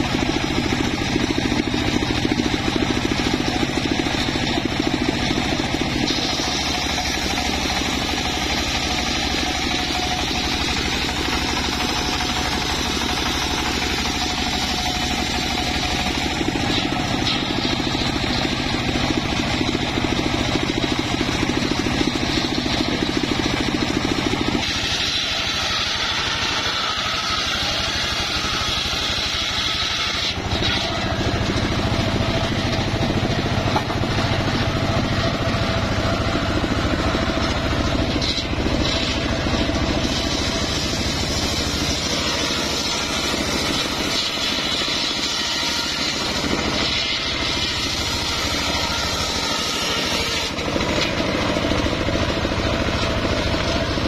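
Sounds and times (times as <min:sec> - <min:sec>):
sawmill blade cutting logs: 0:00.0 - 0:54.0.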